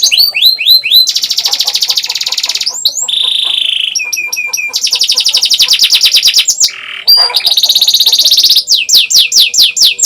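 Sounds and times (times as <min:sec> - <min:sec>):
canary singing trills: 0:00.0 - 0:10.0.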